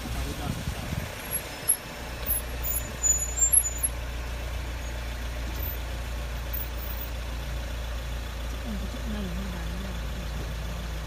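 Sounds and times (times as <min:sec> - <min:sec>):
engine hum inside vehicle: 0:00.0 - 0:11.0.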